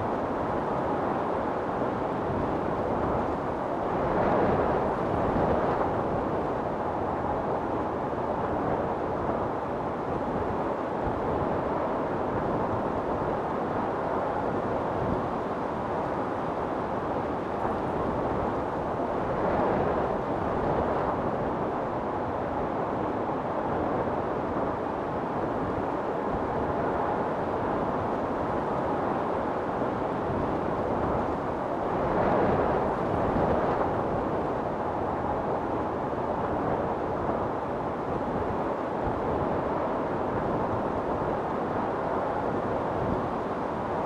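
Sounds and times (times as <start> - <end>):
storm wind blowing: 0.0 - 44.0.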